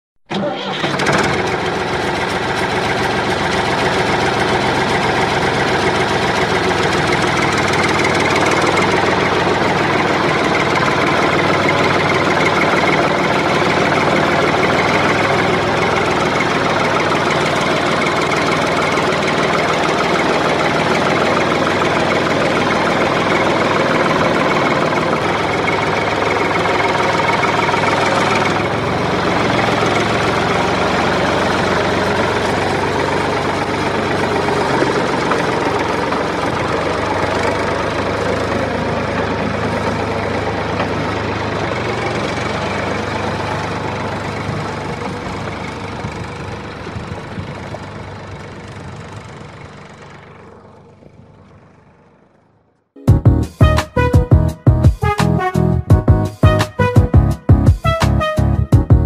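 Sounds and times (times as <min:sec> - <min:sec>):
tractor engine running: 0:00.2 - 0:59.0.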